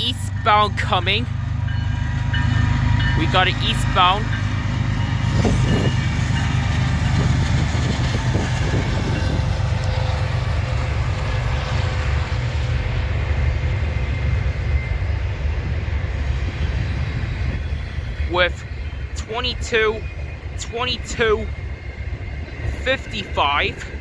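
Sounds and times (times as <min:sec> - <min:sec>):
locomotive engine rumble: 0:00.0 - 0:24.0
rail noise: 0:00.0 - 0:24.0.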